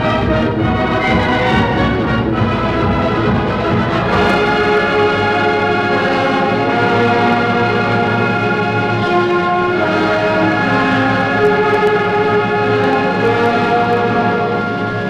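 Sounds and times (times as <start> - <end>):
wind band brass chords: 0.0 - 15.0.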